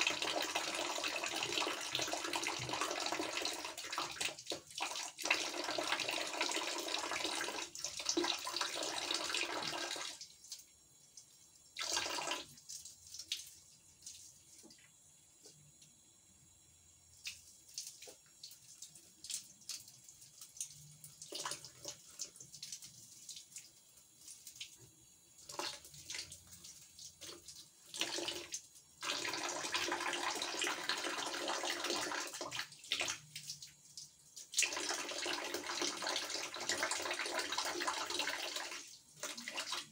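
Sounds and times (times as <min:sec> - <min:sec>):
water drips and splashes: 0:00.0 - 0:15.0, 0:17.1 - 0:39.9
shower water splashing into bucket: 0:00.0 - 0:15.6, 0:17.1 - 0:39.9.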